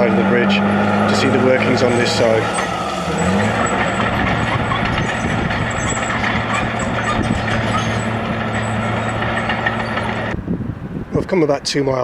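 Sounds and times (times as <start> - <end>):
diesel engine running: 0.0 - 11.2
road traffic noise: 0.0 - 12.0.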